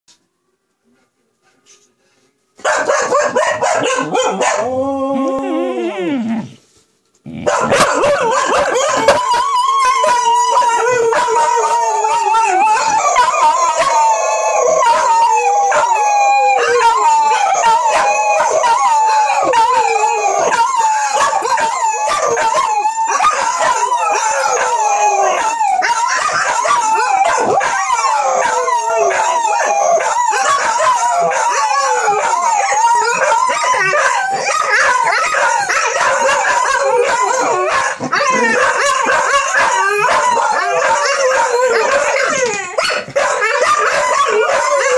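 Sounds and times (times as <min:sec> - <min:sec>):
dog howling: 0:03.2 - 0:06.6, 0:07.3 - 0:44.9.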